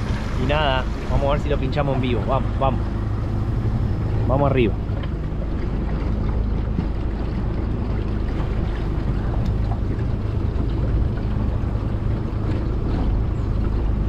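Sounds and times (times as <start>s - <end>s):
motorboat motor rumbling: 0.0s - 14.0s
water moving past hull: 0.0s - 14.0s
wind buffeting microphone: 0.0s - 14.0s.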